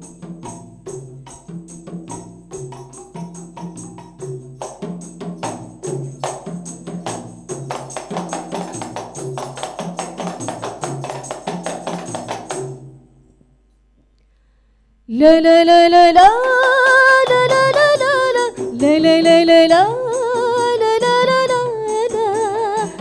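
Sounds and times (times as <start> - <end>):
tambourines struck and shaken: 0.0 - 12.9, 16.3 - 23.0.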